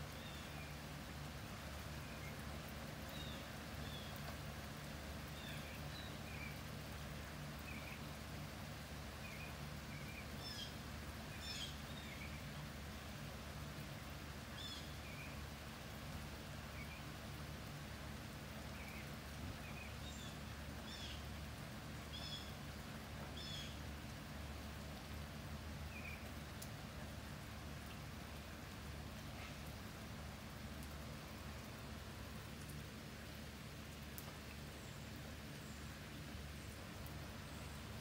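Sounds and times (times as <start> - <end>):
light rain hiss: 0.0 - 38.0.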